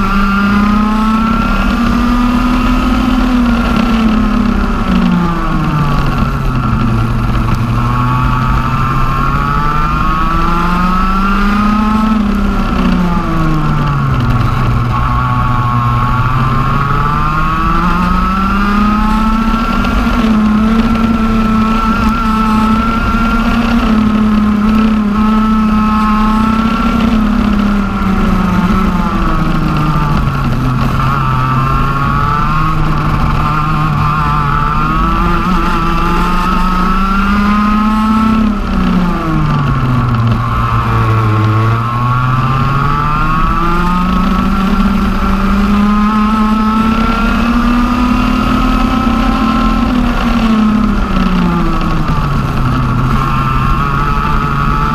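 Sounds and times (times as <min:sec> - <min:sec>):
kart engine whining: 0:00.0 - 0:54.9.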